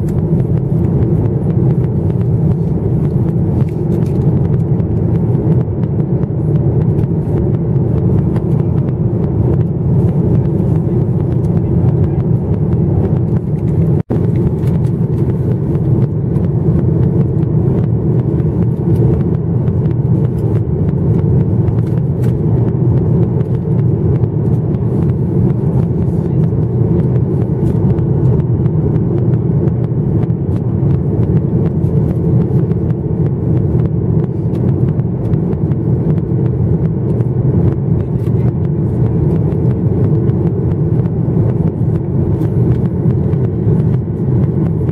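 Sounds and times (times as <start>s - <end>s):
airplane cabin rumble: 0.0s - 44.9s.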